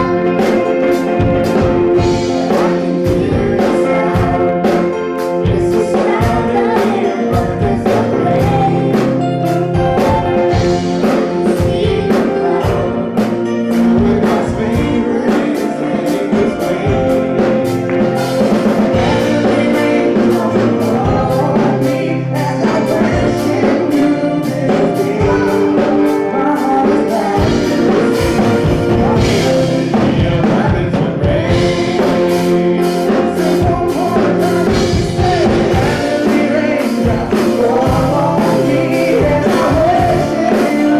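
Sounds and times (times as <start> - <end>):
choir singing over a band: 0.0 - 40.9
drums keeping a beat: 0.0 - 40.9.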